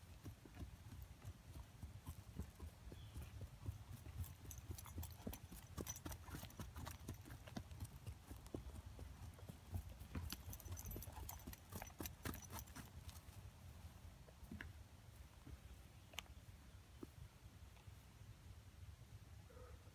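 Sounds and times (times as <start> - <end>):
pony hoofbeats on grass: 0.0 - 17.2.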